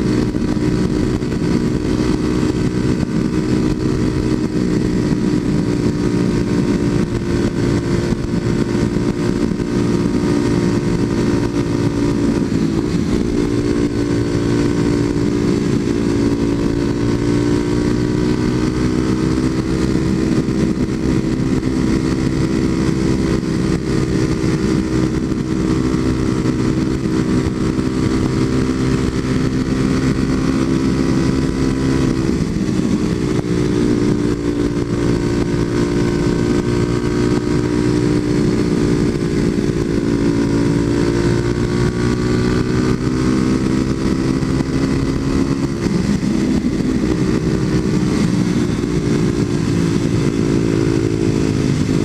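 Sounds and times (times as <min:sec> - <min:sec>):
motorcycle engine cruising: 0:00.0 - 0:52.0
wind rush on microphone: 0:00.0 - 0:52.0.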